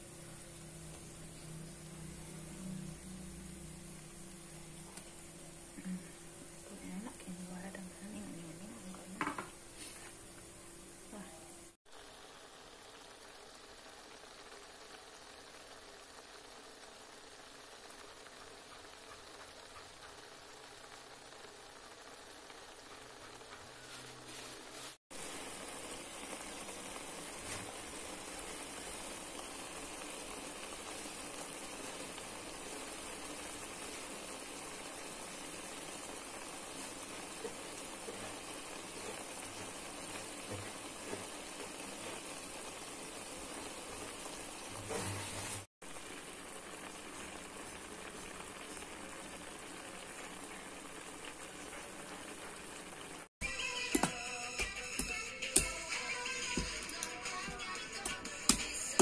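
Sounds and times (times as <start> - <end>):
broth boiling in a wok: 0.0 - 59.0.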